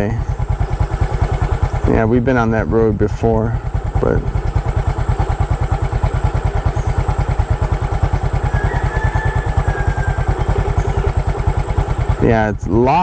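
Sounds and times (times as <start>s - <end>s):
small motorcycle engine idling: 0.0s - 13.0s.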